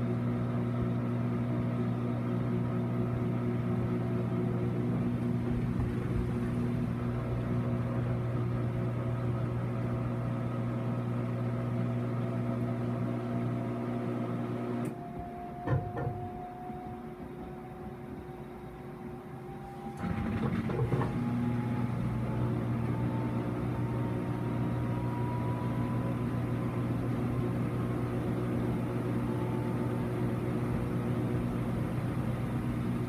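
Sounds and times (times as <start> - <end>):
washing machine humming: 0.0 - 33.0.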